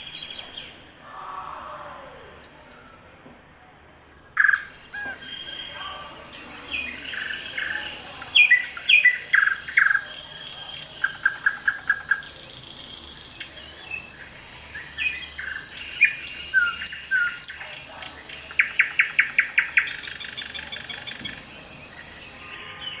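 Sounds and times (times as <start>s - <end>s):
birds whistling: 0.0s - 1.2s, 1.9s - 3.2s, 4.4s - 23.0s
bird trills: 2.0s - 3.2s, 4.4s - 23.0s.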